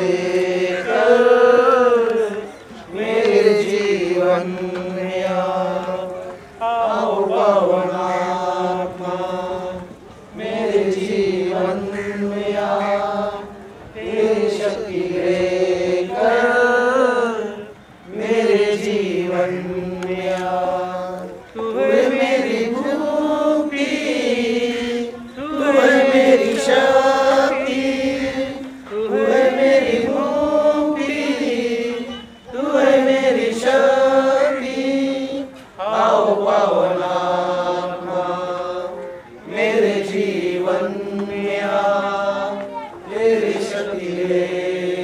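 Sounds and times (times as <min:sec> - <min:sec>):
voices chanting a melody: 0:00.0 - 0:45.0.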